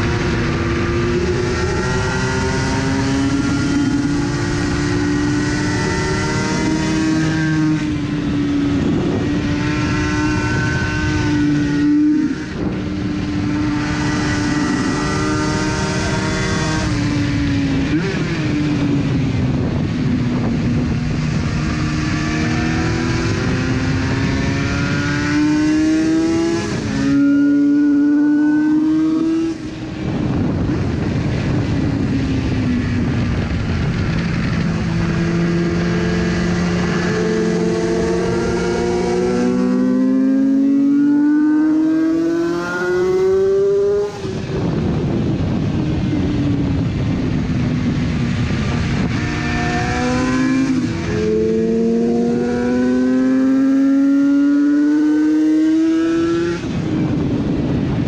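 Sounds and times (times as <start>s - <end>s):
racing motorcycle engine revving: 0.0s - 58.0s
wind rush: 0.0s - 58.0s.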